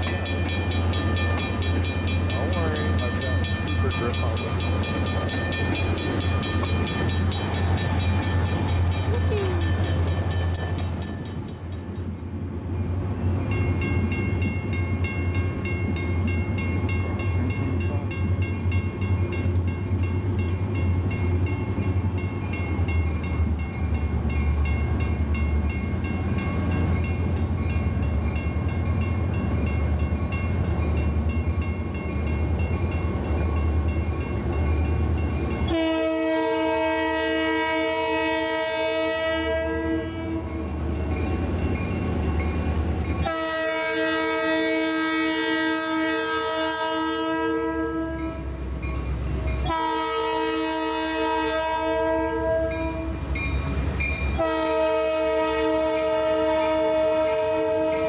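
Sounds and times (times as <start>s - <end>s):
railroad crossing bells ringing: 0.0s - 58.0s.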